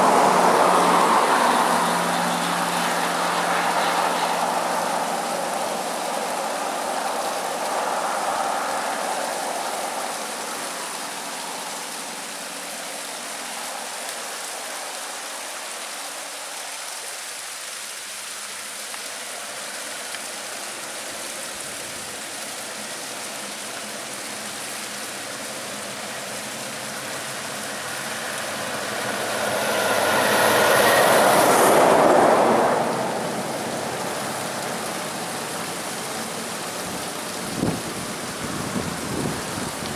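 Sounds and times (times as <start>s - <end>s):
vehicles passing: 0.0s - 16.2s, 19.4s - 39.9s
waterfall rushing: 0.0s - 39.9s.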